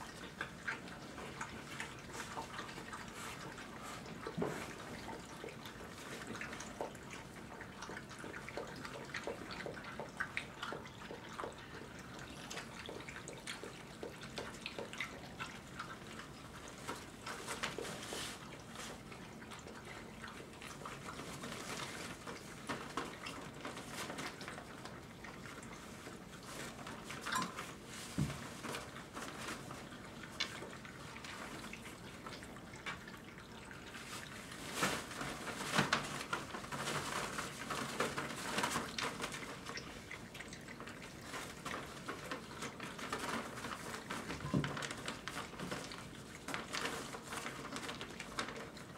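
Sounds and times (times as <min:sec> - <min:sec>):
puppies lapping and slurping: 0:00.0 - 0:48.9.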